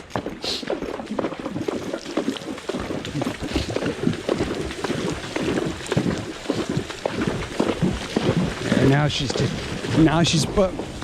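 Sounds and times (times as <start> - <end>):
hooves splashing through creek: 0.0 - 11.0.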